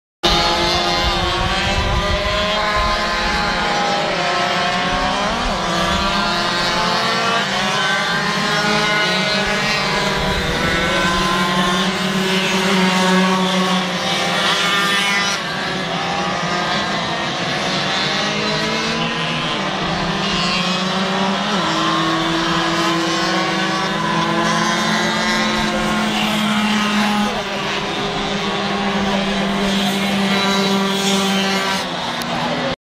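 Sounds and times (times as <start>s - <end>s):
moped engines buzzing: 0.2s - 32.8s.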